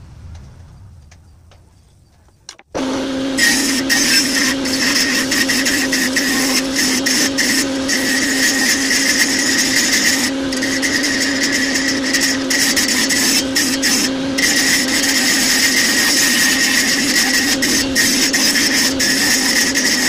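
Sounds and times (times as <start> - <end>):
power tool running on wood: 2.7 - 20.0.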